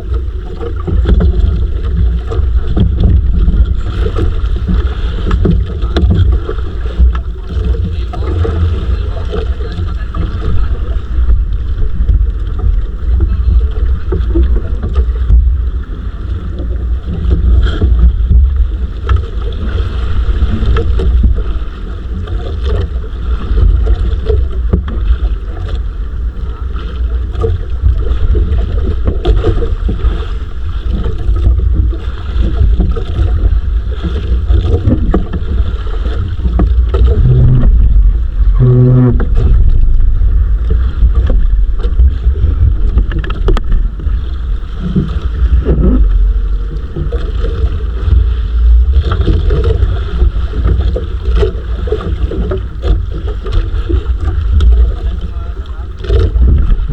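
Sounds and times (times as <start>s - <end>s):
boat engine running: 0.0s - 56.9s
wind buffeting microphone: 0.0s - 56.9s.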